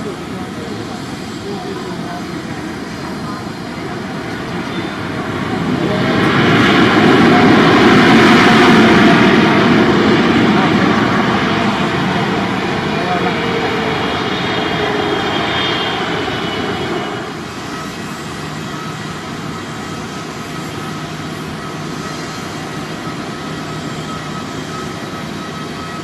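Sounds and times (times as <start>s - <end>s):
high jet engine whine: 0.0s - 26.0s
jet engines roaring: 0.0s - 26.0s.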